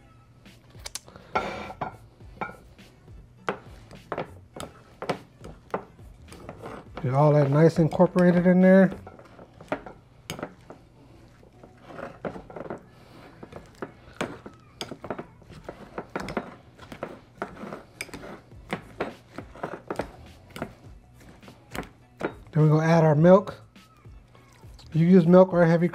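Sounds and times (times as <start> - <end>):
potatoes being mashed: 3.2 - 25.9.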